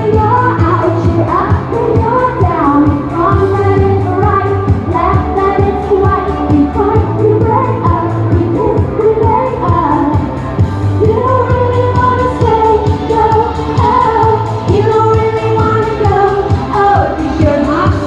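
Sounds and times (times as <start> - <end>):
woman singing: 0.0 - 10.4, 11.0 - 18.0.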